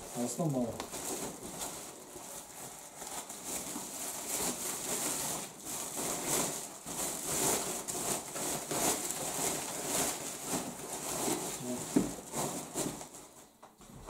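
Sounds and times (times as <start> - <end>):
plastic bag rustling: 0.0 - 13.6.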